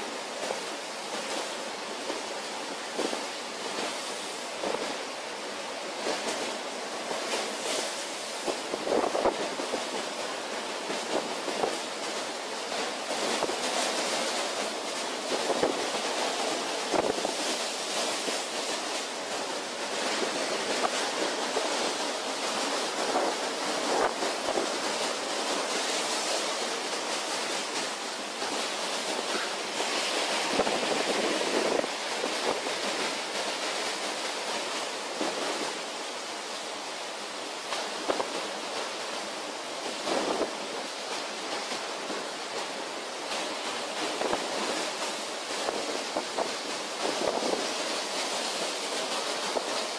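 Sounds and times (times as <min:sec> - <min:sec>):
rough seas breaking against ship: 0:00.0 - 0:49.9
storm wind: 0:00.0 - 0:49.9.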